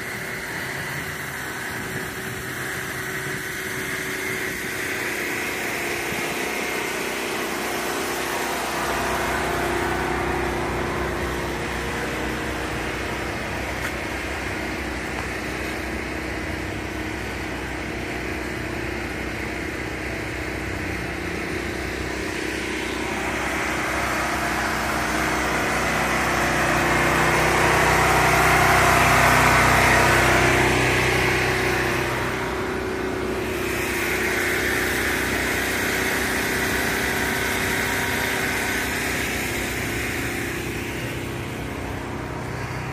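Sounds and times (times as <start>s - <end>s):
road traffic hum: 0.0s - 42.9s.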